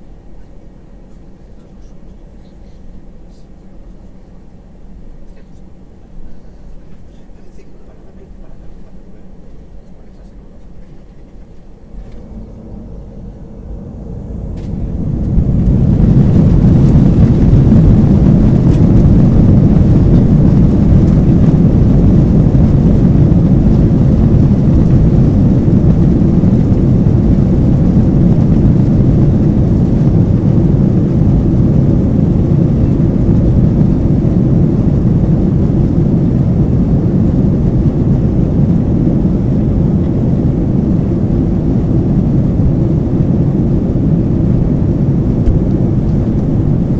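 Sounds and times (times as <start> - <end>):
jet engines roaring: 7.5 - 46.9.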